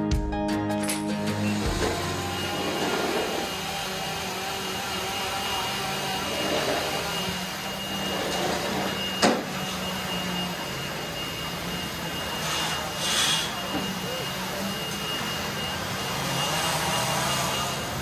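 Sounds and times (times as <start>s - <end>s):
power tools droning: 1.2s - 18.0s.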